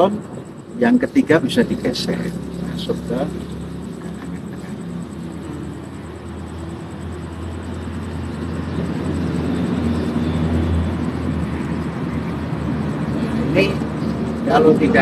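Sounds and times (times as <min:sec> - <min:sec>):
heavy machine engine humming: 0:00.0 - 0:15.0.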